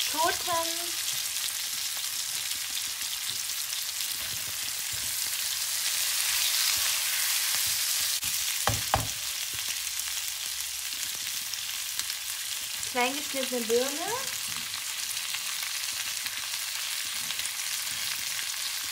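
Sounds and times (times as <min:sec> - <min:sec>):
vegetables sizzling in hot oil: 0:00.0 - 0:18.9.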